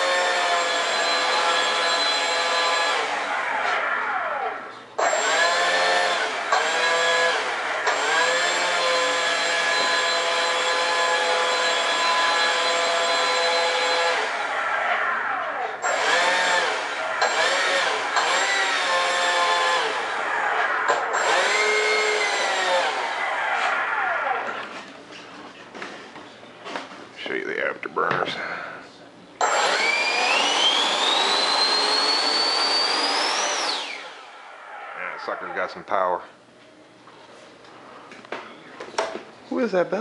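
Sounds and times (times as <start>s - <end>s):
electric ducted fan whine: 0.0s - 40.0s.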